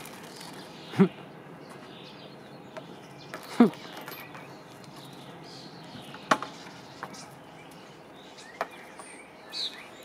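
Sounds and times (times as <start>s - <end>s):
bird chirp: 0.0s - 10.0s.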